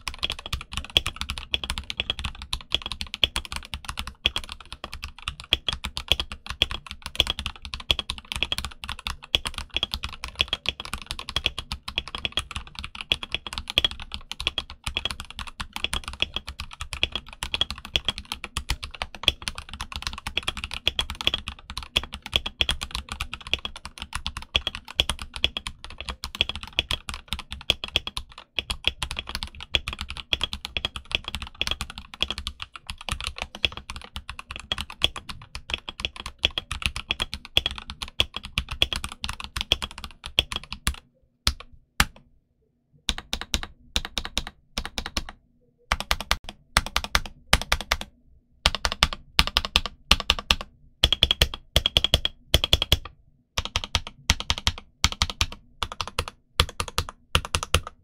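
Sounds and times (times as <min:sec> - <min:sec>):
fast mechanical keyboard typing: 0:00.0 - 0:42.2, 0:43.1 - 0:58.0.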